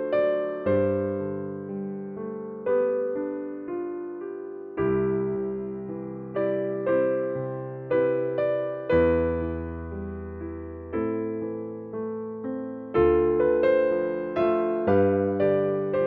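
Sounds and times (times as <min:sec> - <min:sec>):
gentle electric piano chords: 0:00.0 - 0:16.0.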